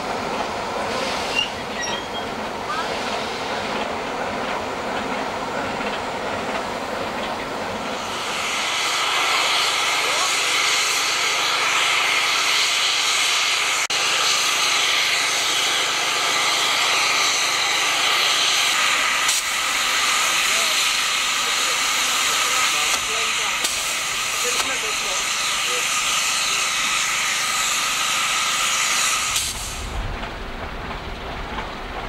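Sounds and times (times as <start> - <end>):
steam locomotive rumbling on rails: 0.0 - 32.0
hiss of escaping steam: 0.2 - 3.7, 7.5 - 30.0.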